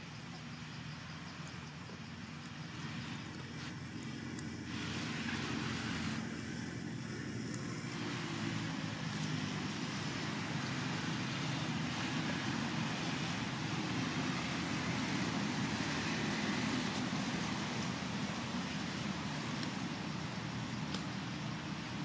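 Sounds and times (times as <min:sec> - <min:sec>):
low rumble with hiss: 0:00.0 - 0:22.0.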